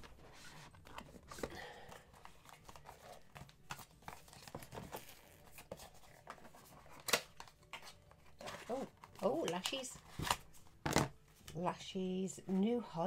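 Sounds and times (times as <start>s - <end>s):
cardboard packaging rustling: 0.0s - 11.3s.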